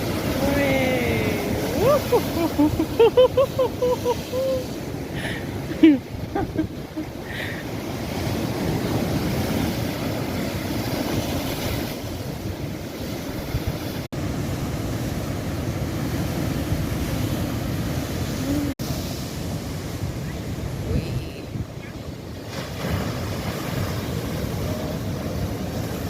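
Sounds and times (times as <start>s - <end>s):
surf breaking on shore: 0.0s - 26.0s
wind rumbling on microphone: 0.0s - 26.0s.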